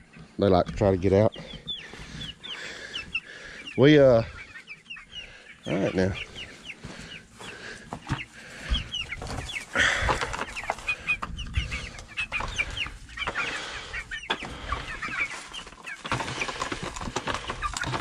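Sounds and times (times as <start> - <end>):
chickens clucking and cheeping: 0.0 - 18.0.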